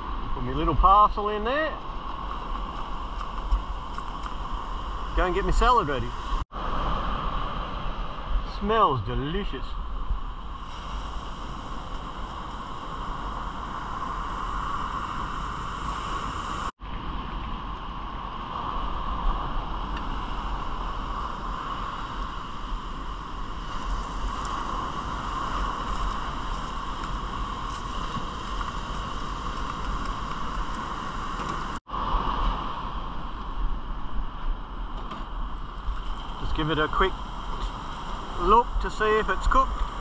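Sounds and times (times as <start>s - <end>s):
steady rushing noise: 0.0s - 40.0s.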